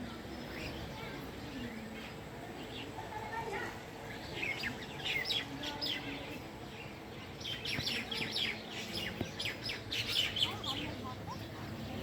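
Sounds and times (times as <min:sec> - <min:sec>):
sparrow chirping: 0:00.1 - 0:12.0.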